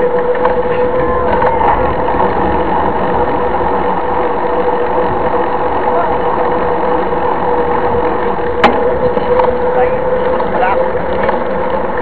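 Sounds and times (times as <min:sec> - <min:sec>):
bike tyre humming on asphalt: 0:00.0 - 0:12.0
wind on microphone: 0:00.0 - 0:12.0.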